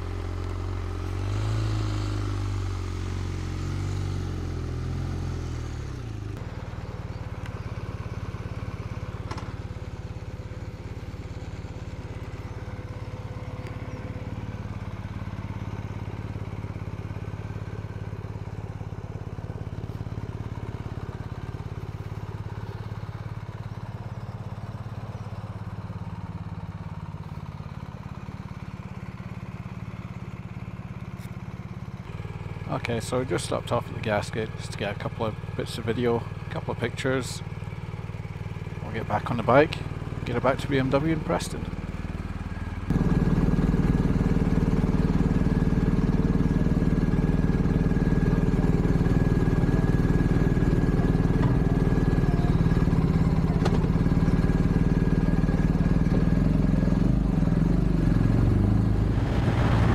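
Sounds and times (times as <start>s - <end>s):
motorcycle engine slowing and idling: 0.0s - 59.9s.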